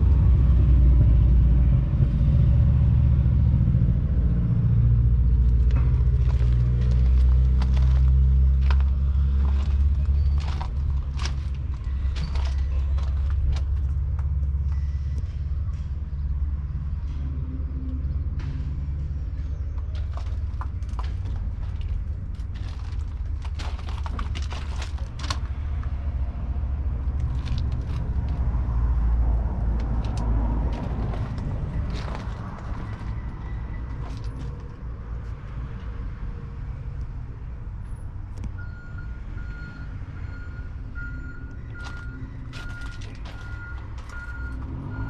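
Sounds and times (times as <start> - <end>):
diesel engine rumbling: 0.0 - 45.0.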